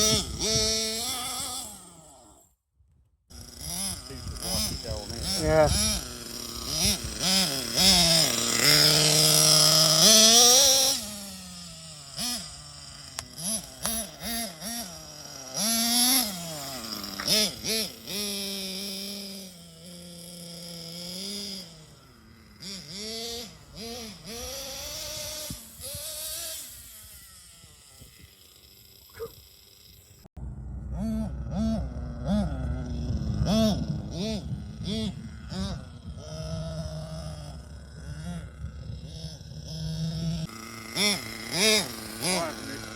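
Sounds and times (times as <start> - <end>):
small engine revving: 0.0 - 42.9.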